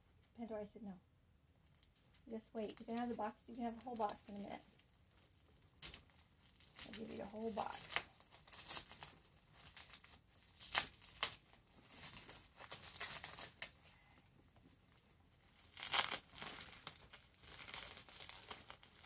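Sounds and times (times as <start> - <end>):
bubble wrap crinkling: 1.4 - 19.0.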